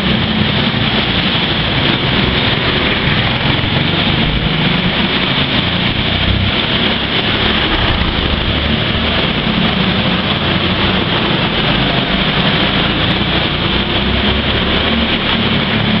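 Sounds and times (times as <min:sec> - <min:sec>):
go-kart engines droning: 0:00.0 - 0:16.0.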